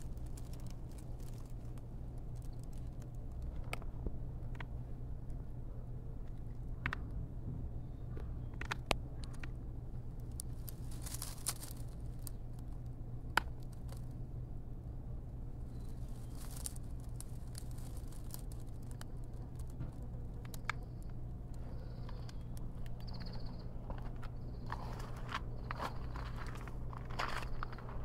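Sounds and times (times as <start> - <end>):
rustling and crinkling: 0.0 - 5.4, 8.1 - 14.2, 15.6 - 28.0
steady low hum: 0.0 - 28.0.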